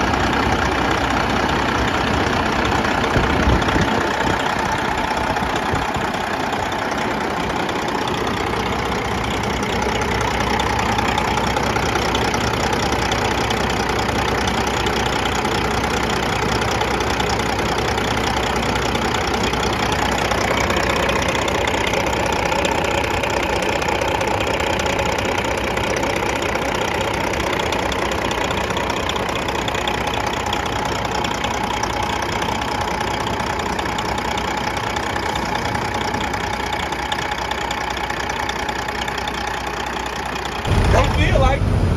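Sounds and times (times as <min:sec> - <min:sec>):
truck diesel engine running: 0:00.0 - 0:41.9.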